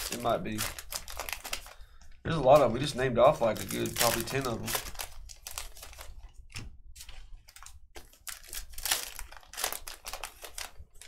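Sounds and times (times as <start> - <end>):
card packs rustling and crinkling: 0.0 - 11.0.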